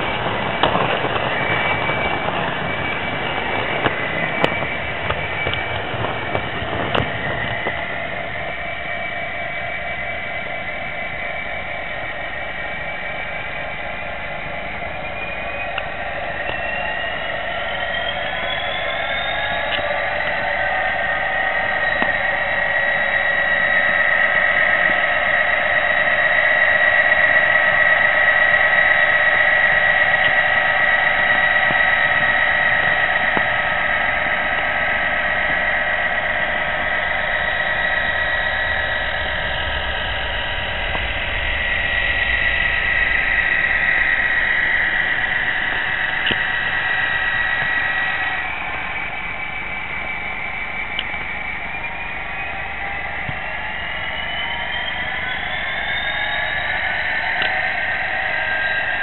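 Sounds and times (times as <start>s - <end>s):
model train rolling rumble: 0.0s - 59.0s
model train whine: 0.0s - 59.0s.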